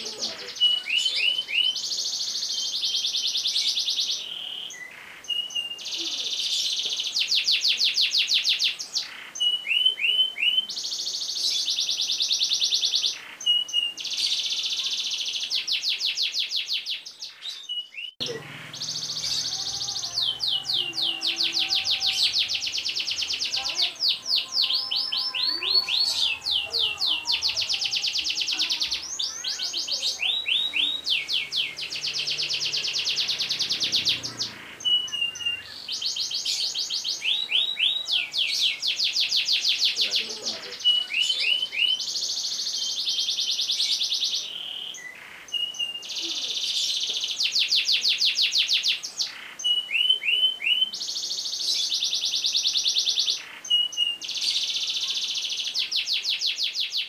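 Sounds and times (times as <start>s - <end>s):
canary singing rolling trills: 0.0s - 57.0s.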